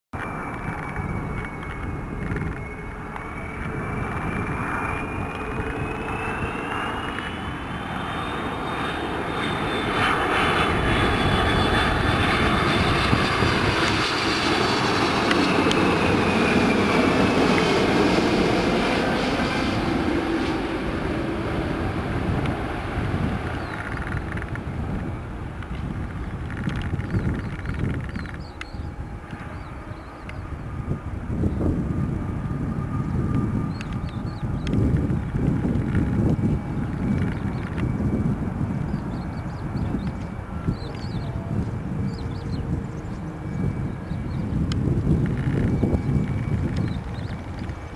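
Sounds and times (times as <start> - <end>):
high engine whine: 0.2 - 47.9
jet engines roaring: 0.2 - 47.9.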